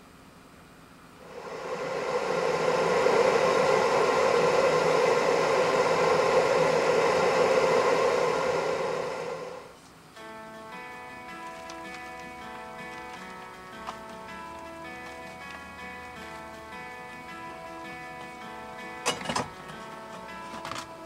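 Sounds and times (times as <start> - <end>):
gas burner hissing: 1.2 - 9.8, 11.3 - 21.0.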